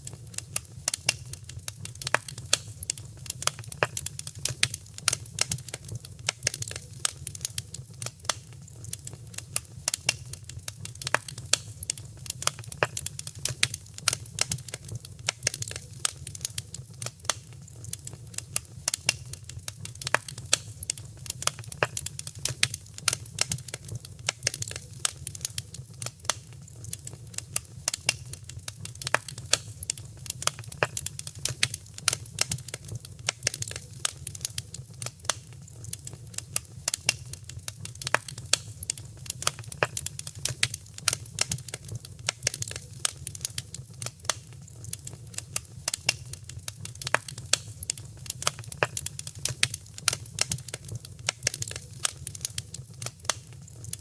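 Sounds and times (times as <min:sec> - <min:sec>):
wood fire crackling in a fireplace: 0:00.0 - 0:54.0.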